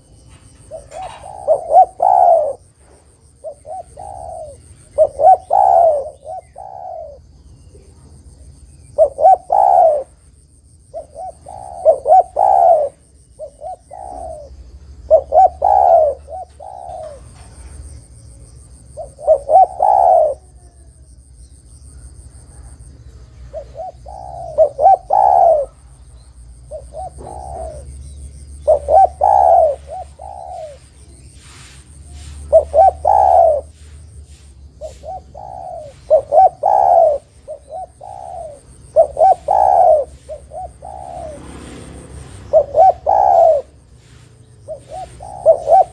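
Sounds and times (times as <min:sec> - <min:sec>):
dove cooing: 0:00.0 - 0:10.2, 0:10.9 - 0:21.1, 0:21.8 - 0:45.9.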